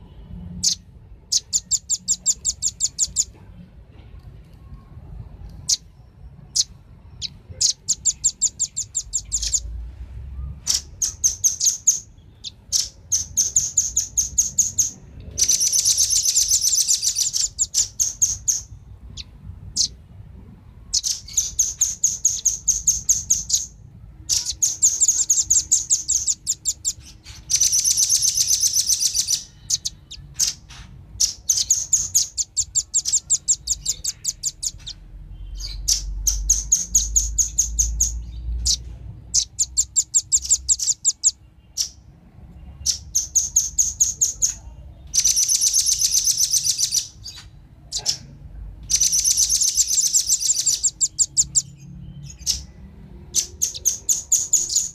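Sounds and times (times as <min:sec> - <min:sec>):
bird high chipping calls: 0:00.6 - 0:03.3, 0:05.6 - 0:20.0, 0:20.8 - 0:42.1, 0:42.7 - 0:54.9.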